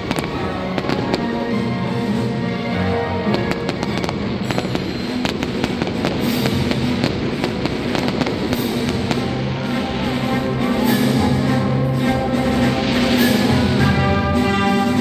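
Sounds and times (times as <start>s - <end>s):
fireworks crackling pops: 0.0s - 2.6s, 3.2s - 14.6s
music playing: 0.0s - 15.0s.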